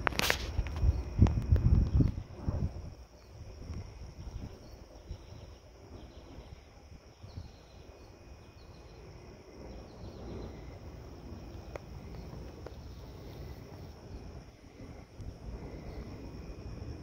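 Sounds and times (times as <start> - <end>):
insects trilling: 0.0 - 17.0
uneven low rumble: 0.0 - 17.0.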